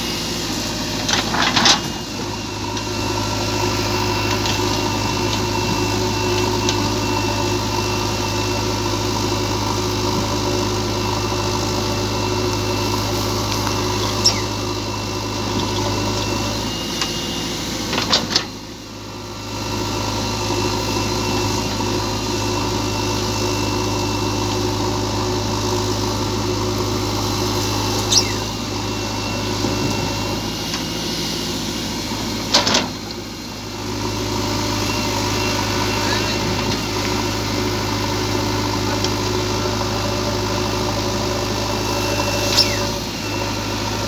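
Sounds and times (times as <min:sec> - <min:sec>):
engine droning: 0:00.0 - 0:44.0.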